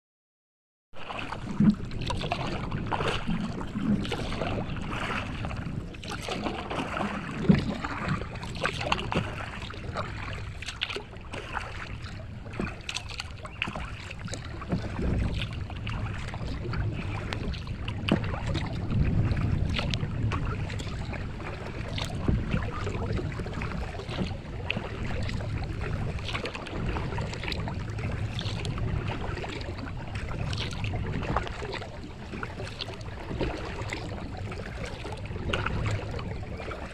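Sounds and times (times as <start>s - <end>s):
paddle splashing water: 1.0s - 36.9s
water lapping at hull: 1.0s - 36.9s
wind rumble on microphone: 1.1s - 36.9s.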